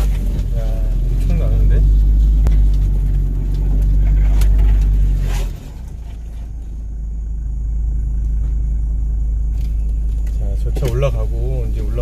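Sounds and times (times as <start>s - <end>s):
off-road vehicle engine rumbling: 0.0s - 12.0s.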